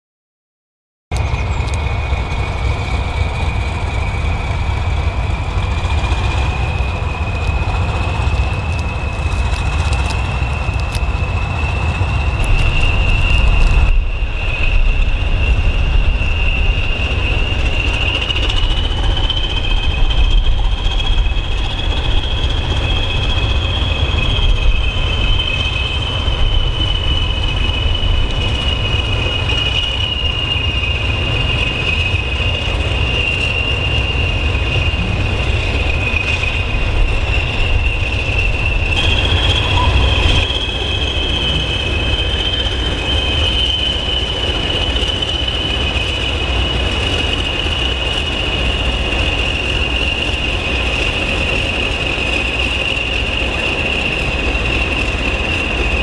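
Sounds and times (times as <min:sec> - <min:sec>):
diesel locomotive engines rumbling: 0:01.1 - 0:56.0
turbocharger whistle: 0:08.4 - 0:56.0.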